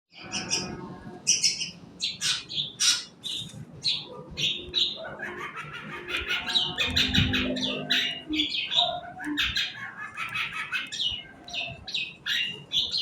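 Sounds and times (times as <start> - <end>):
bird harsh chirps and squawks: 0.1 - 13.0.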